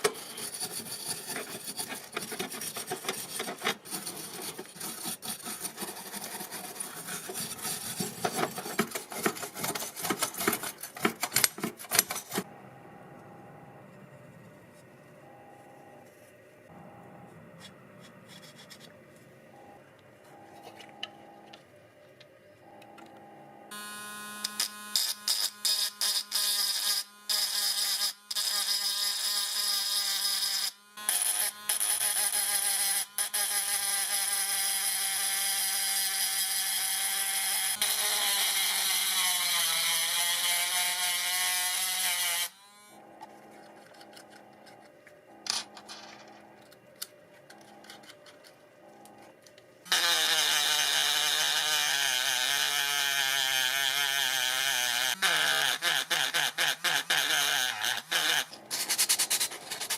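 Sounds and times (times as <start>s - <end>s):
rotary tool whining: 0.0s - 21.6s, 22.6s - 59.9s.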